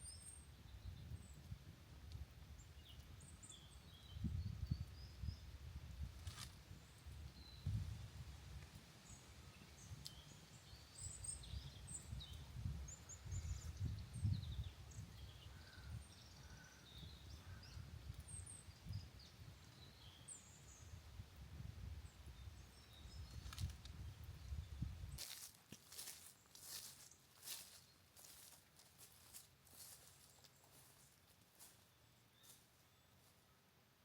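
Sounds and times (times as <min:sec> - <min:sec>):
small birds chirping: 0:00.0 - 0:05.6, 0:06.2 - 0:21.2, 0:22.0 - 0:33.6.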